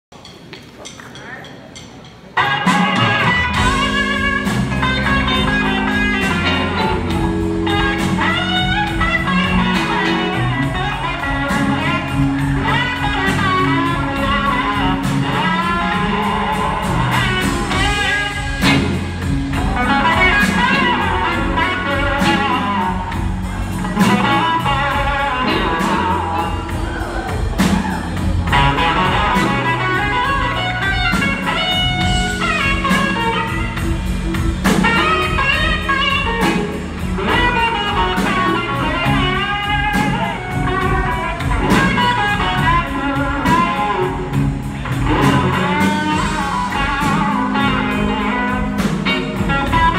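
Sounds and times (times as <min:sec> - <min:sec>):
drums: 0:00.0 - 0:49.9
bass: 0:00.1 - 0:49.9
electric slide guitar: 0:02.4 - 0:49.9.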